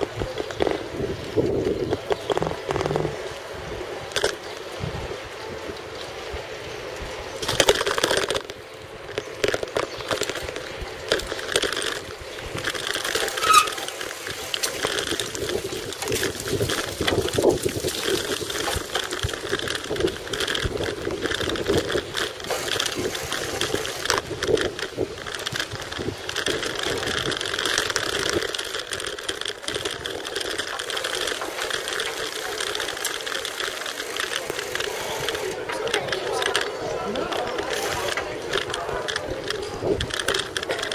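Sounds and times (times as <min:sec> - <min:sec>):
bicycle rattling over paving: 0:00.0 - 0:40.9.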